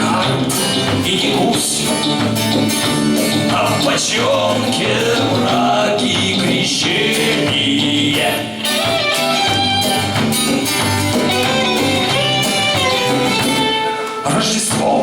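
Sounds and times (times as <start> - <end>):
bass notes: 0.0 - 13.9
drum hits: 0.0 - 14.0
instrumental band music: 0.0 - 15.0.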